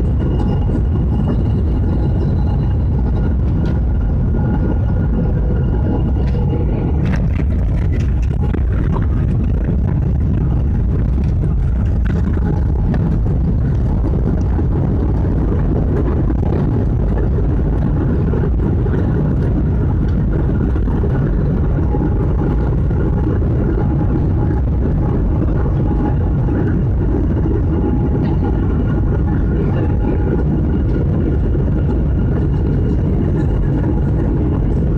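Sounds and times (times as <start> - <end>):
faint steady tones: 0.0 - 34.9
loud low engine rumble: 0.0 - 34.9.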